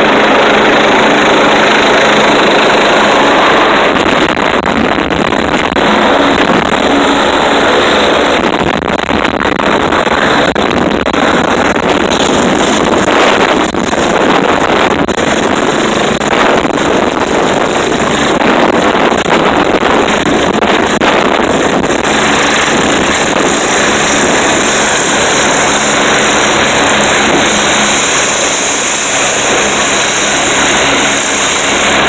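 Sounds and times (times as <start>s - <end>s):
helicopter engines and rotor: 0.0s - 32.0s
high turbine whine: 0.0s - 32.0s.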